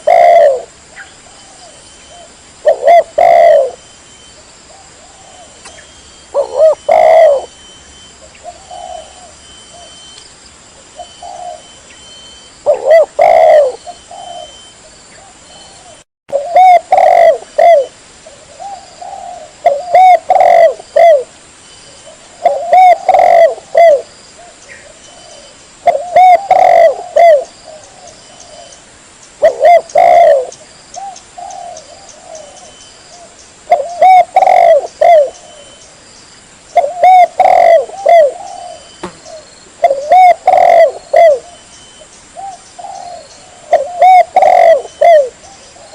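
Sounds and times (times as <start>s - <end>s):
dove cooing: 0.0s - 7.6s, 8.2s - 10.1s, 10.8s - 21.3s, 21.9s - 28.8s, 29.4s - 36.0s, 36.7s - 45.9s.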